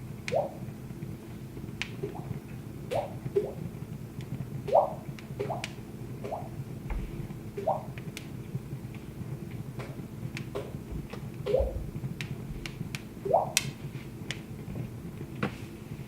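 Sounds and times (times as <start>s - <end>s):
low rumble of flames: 0.0s - 16.0s
wood fire pops and snaps: 0.1s - 15.5s.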